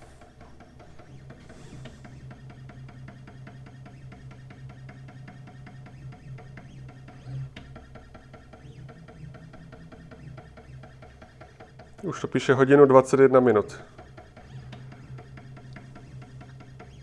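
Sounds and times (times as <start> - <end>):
stepper motors humming and ticking: 0.0 - 17.0.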